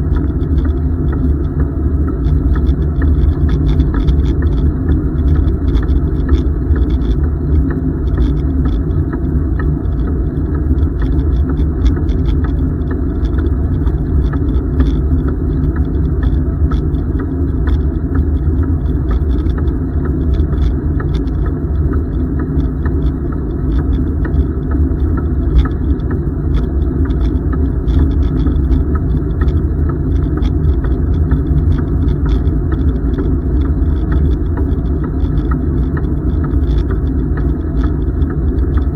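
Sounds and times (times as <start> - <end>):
ticks and rattles: 0.0 - 38.9.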